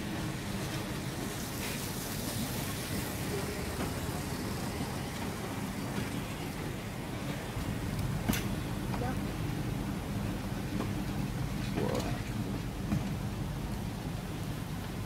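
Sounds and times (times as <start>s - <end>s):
train coaches rumbling past: 0.0s - 15.0s.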